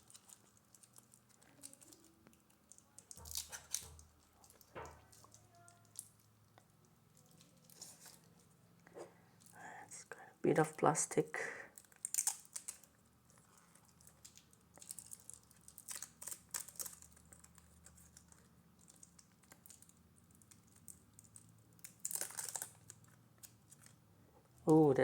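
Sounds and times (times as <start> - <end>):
plastic film crinkling and peeling: 0.0 - 8.6, 11.7 - 24.0.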